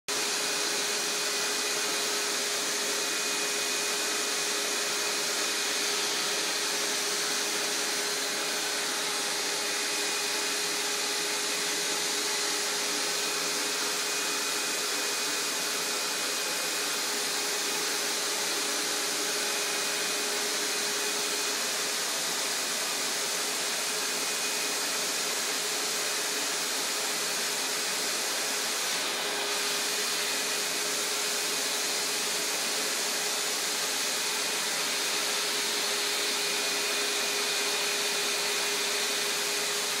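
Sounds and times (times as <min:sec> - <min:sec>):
vacuum cleaner running: 0:00.1 - 0:40.0.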